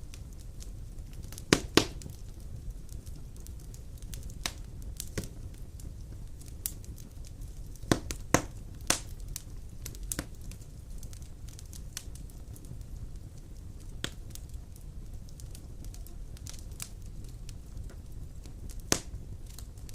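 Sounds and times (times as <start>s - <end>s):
low rumble of fire: 0.0s - 19.9s
sharp crackles and pops: 0.0s - 19.9s.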